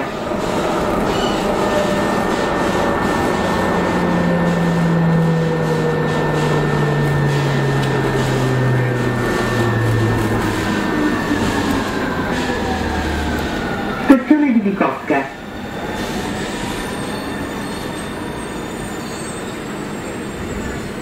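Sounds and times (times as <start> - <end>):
train wheel and rail noise: 0.0 - 21.0.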